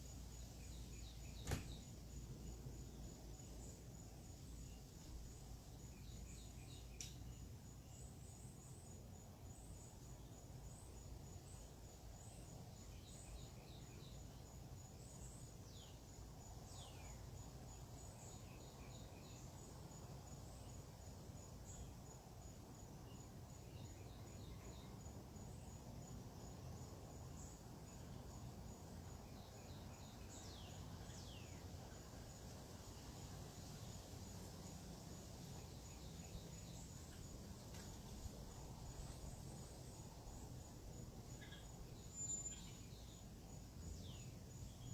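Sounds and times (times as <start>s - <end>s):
high pulsing insect call: 0.0s - 44.9s.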